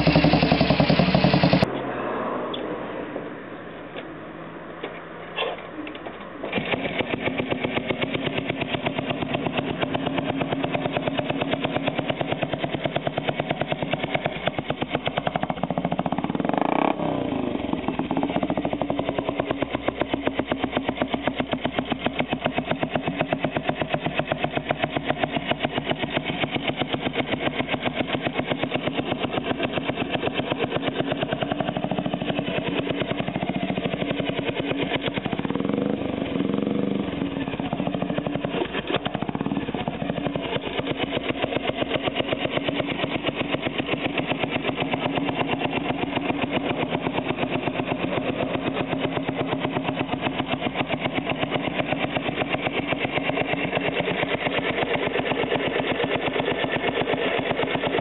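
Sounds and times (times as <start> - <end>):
motorcycle engine starting and idling: 0.0 - 3.3, 4.8 - 58.0.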